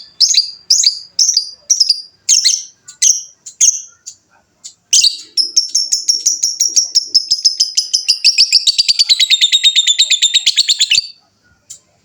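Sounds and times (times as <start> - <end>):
lovebird chattering trill: 0.0 - 11.2.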